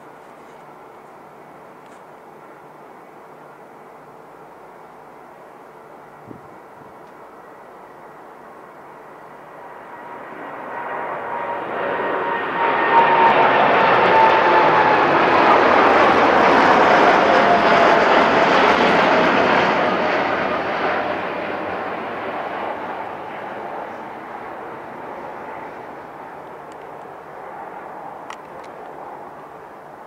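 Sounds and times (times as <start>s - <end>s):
jet airliner engine roar: 0.0s - 30.0s.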